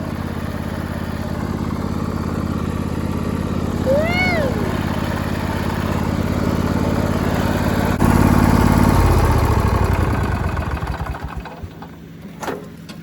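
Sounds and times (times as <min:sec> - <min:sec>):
lawn tractor engine running: 0:00.0 - 0:13.0.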